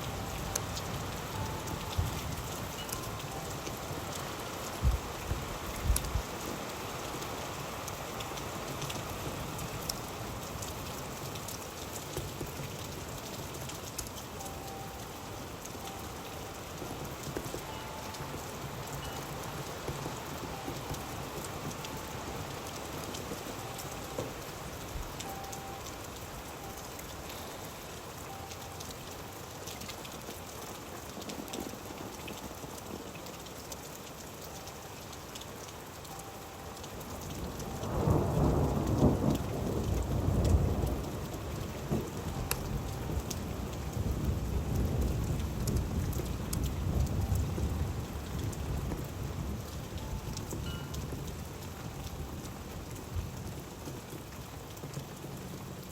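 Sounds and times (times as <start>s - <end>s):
rain drops pattering on surface: 0.0s - 55.9s.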